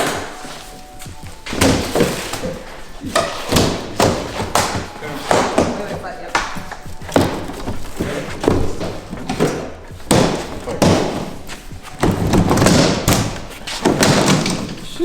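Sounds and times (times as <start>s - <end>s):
cardboard box thumps and knocks: 0.0s - 14.8s
cardboard scraping: 0.0s - 15.0s.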